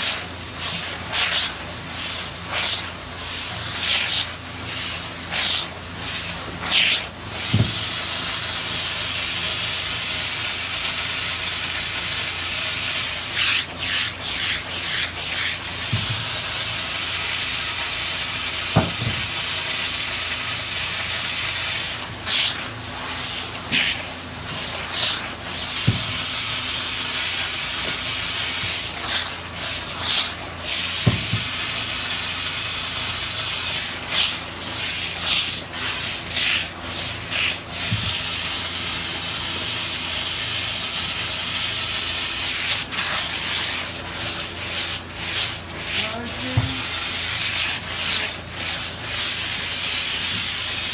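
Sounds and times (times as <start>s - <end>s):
steam iron hissing: 0.0s - 50.9s.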